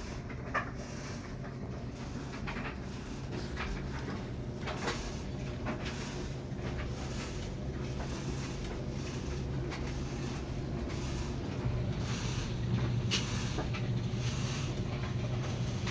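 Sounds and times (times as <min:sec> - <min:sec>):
dryer humming and grinding: 0:00.0 - 0:15.9.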